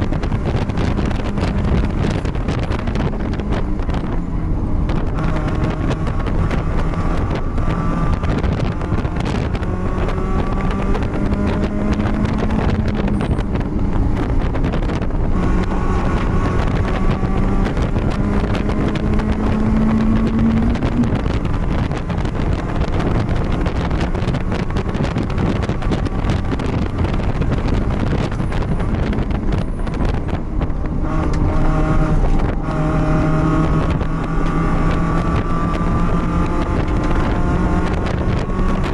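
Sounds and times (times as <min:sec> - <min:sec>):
race car engine revving: 0:00.0 - 0:38.9
wind noise on microphone: 0:00.0 - 0:38.9.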